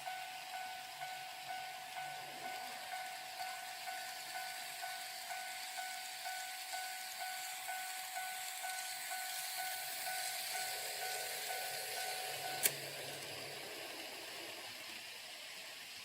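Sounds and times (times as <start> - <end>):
level crossing warning bell: 0.0 - 14.7.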